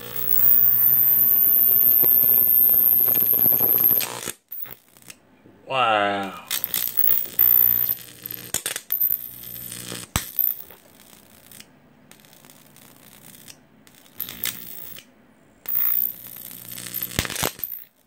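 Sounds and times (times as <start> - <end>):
electric arc buzzing and crackling: 0.0 - 5.2, 6.4 - 18.0
sharp electric snaps: 0.0 - 5.2, 6.4 - 18.0.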